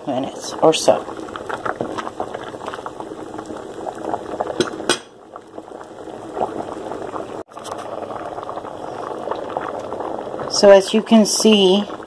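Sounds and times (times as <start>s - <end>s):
rice boiling in water: 0.0s - 12.0s.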